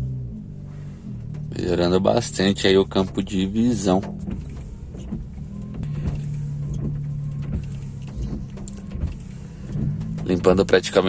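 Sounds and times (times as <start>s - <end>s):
wiper blades swishing: 0.0s - 11.0s
wiper motor hum: 0.0s - 11.0s.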